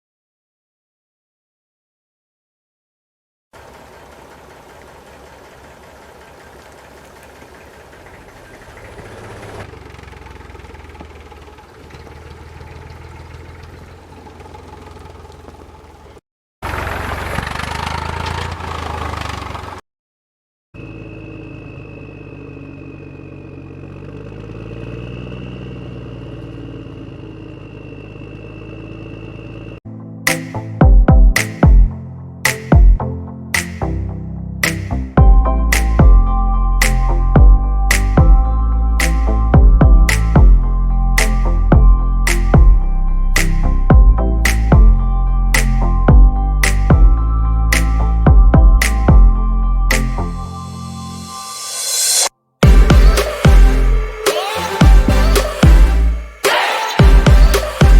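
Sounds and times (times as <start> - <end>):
engine running: 3.6 - 19.8, 20.8 - 29.8, 34.6 - 50.6, 51.6 - 57.9.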